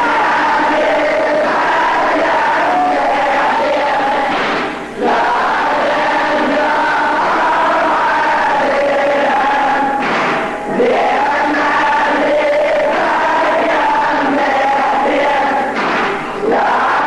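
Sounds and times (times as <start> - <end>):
many voices chanting: 0.0 - 17.0.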